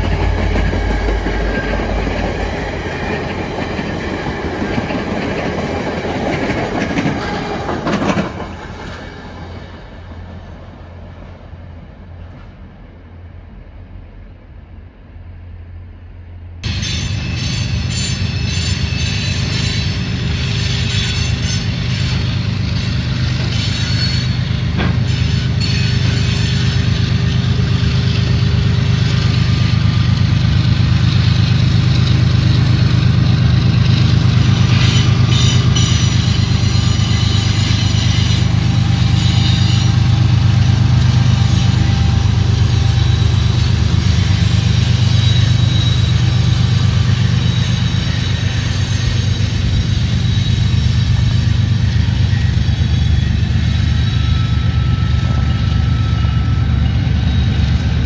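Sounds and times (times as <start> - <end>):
freight train rumbling: 0.0 - 58.0.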